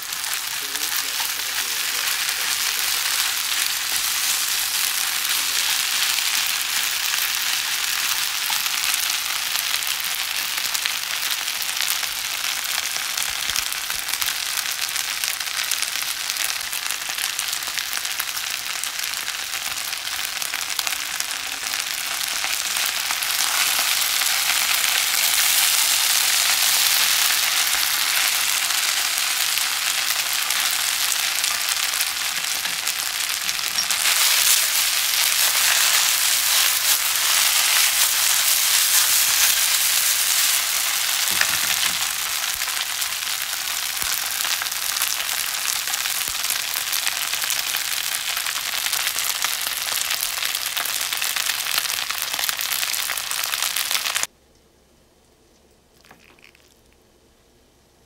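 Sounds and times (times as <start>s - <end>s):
food sizzling in a frying pan: 0.0s - 54.3s.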